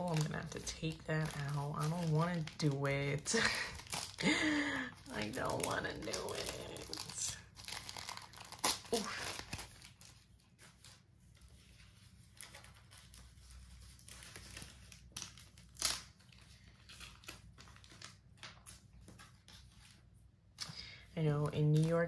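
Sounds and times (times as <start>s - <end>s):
cardboard packet rustling: 0.0s - 20.3s.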